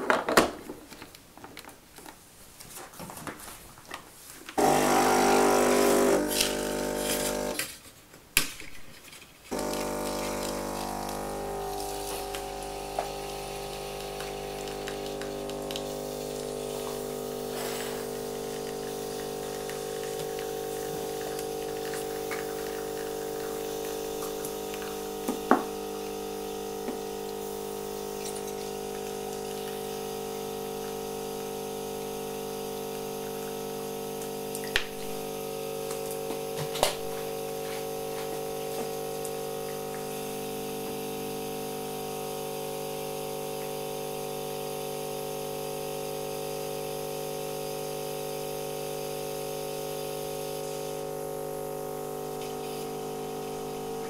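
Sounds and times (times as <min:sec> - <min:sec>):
espresso machine pump humming: 0:04.6 - 0:07.6, 0:09.5 - 0:54.0.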